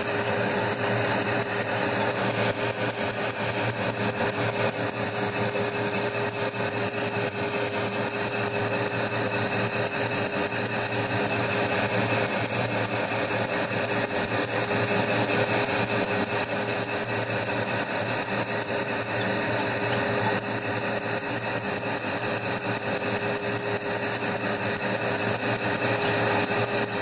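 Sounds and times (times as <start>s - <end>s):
laser unit humming: 0.0s - 27.0s
laser pulse clicks: 0.1s - 27.0s.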